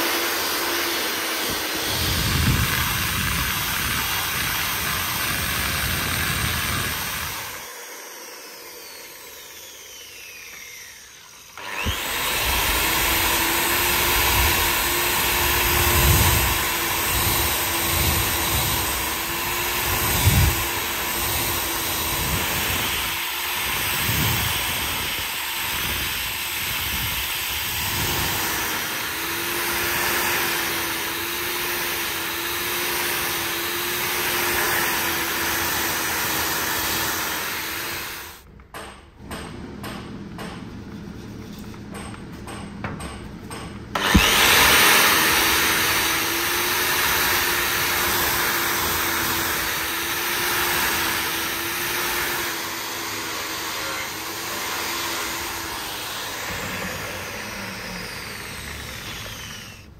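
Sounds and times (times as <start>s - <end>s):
angle grinder sanding steel: 0.0s - 38.4s, 44.0s - 59.9s.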